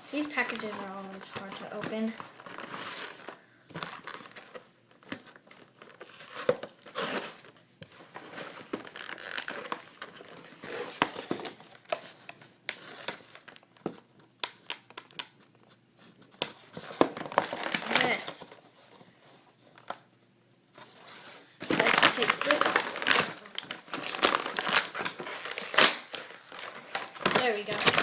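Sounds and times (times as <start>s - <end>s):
packaging crinkling and tearing: 0.0s - 15.4s, 16.4s - 19.0s, 21.1s - 28.0s.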